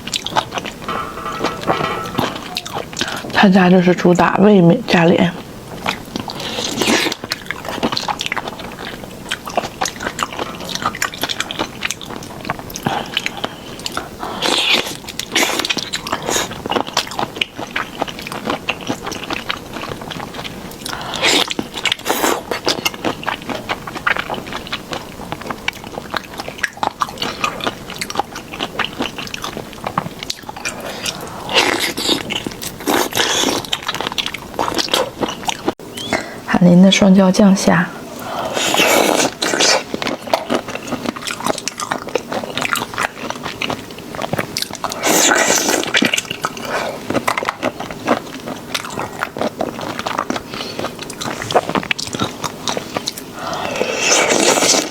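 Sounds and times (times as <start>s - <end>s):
close biting and chewing: 5.8s - 35.8s, 38.5s - 54.9s.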